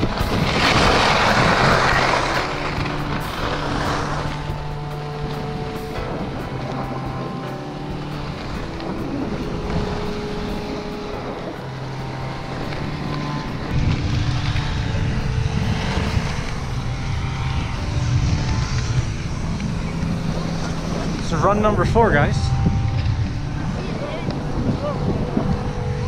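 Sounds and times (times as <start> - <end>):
skis scraping over snow: 0.0 - 26.0
wind rushing over microphone: 0.0 - 26.0.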